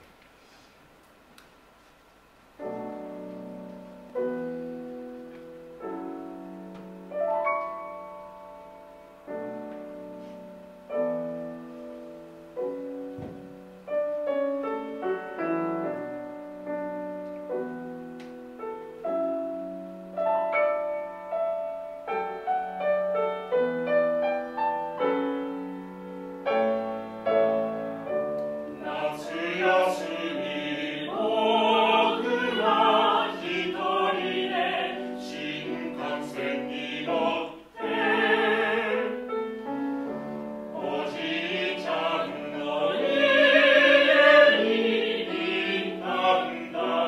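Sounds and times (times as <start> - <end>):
solo piano: 2.6 - 47.0.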